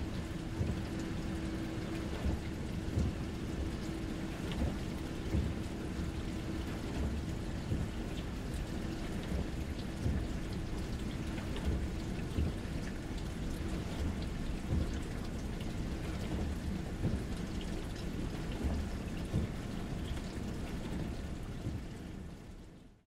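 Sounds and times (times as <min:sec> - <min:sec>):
dishwasher low rumble: 0:00.0 - 0:22.5.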